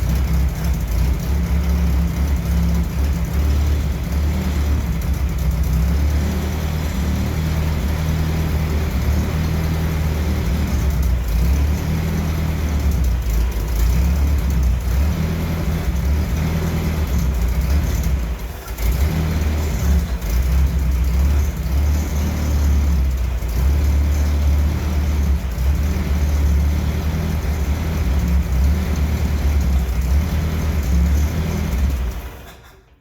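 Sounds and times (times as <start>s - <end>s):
jeep engine running: 0.0s - 32.5s.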